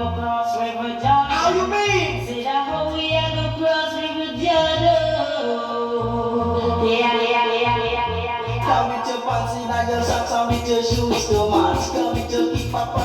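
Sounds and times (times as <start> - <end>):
pulsing bass line: 0.0 - 13.0
reggae song with singing: 0.0 - 13.0.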